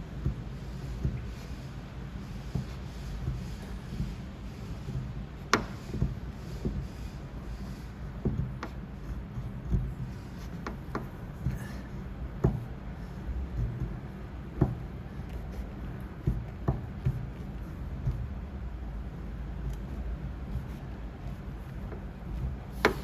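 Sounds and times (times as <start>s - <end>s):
tools tapping on car panel: 0.1s - 1.6s, 2.4s - 23.0s.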